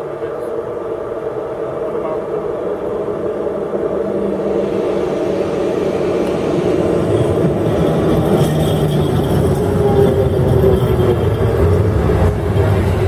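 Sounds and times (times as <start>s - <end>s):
low humming tones: 0.0s - 13.0s
train wheels rumbling on rail: 0.0s - 13.0s.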